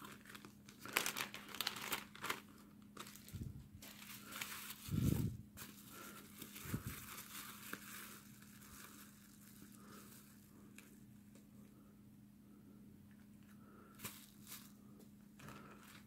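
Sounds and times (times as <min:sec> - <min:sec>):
bubble-wrap bags crinkling: 0:00.0 - 0:11.0, 0:14.0 - 0:16.0.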